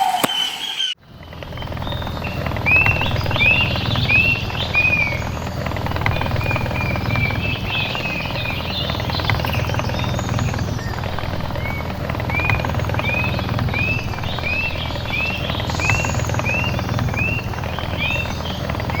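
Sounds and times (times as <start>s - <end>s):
bird whistling: 0.0s - 19.0s
loud low rumble: 1.0s - 19.0s.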